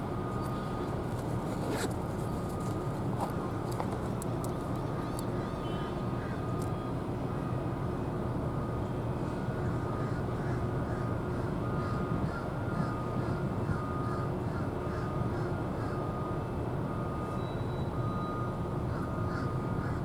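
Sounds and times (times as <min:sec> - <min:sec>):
low rumble of vehicles and machinery: 0:00.0 - 0:20.0
reversing alarm beeping: 0:00.0 - 0:20.0.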